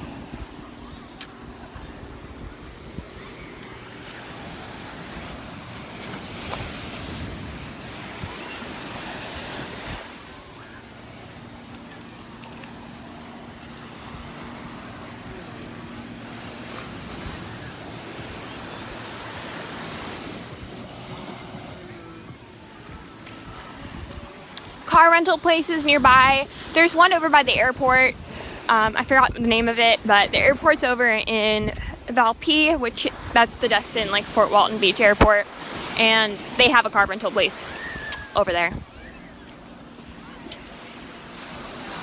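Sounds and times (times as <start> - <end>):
surf breaking on beach: 0.0 - 42.0.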